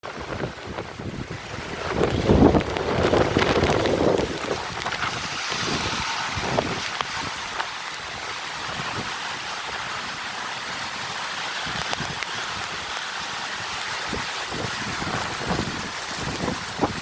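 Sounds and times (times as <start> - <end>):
heavy rain: 0.0 - 17.0
wind gusting against microphone: 0.0 - 17.0.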